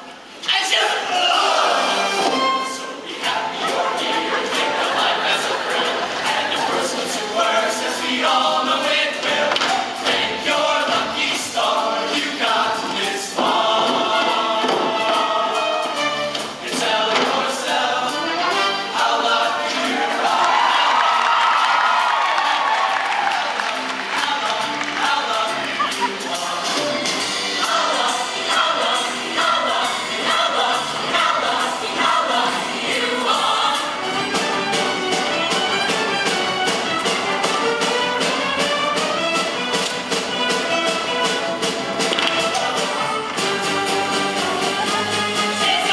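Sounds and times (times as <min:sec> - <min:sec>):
choir singing in harmony: 0:00.8 - 0:45.9
instrumental accompaniment: 0:01.6 - 0:45.9.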